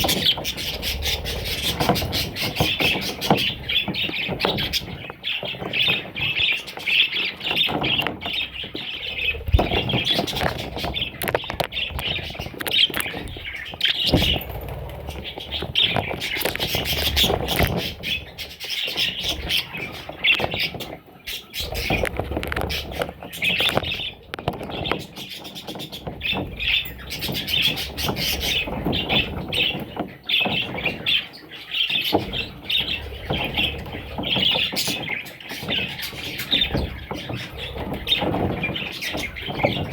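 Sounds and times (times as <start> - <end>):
budgerigars chirping: 0.0 - 14.5, 15.1 - 39.9.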